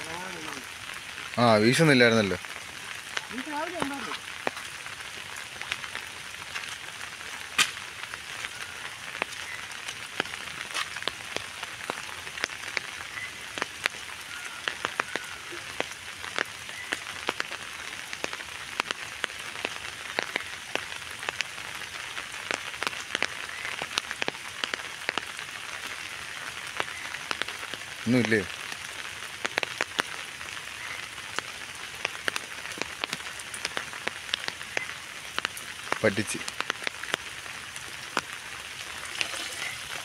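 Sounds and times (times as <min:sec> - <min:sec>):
rain falling on water: 0:00.0 - 0:40.0.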